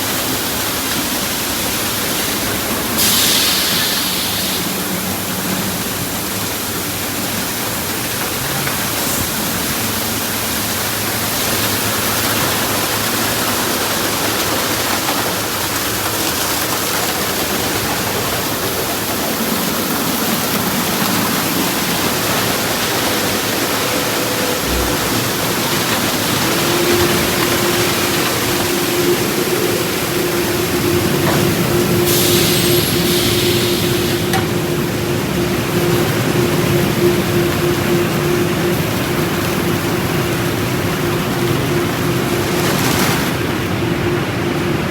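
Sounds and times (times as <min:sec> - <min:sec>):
car wash spraying water: 0:00.0 - 0:44.9
wash machinery hum: 0:00.0 - 0:44.9.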